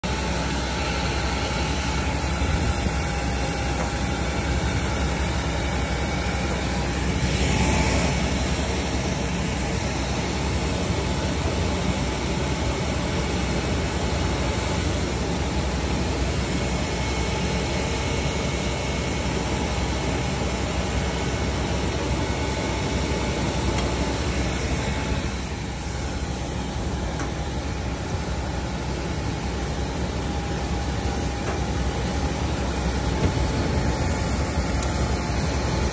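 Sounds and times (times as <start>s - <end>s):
turbine rush with high whine: 0.0s - 35.9s.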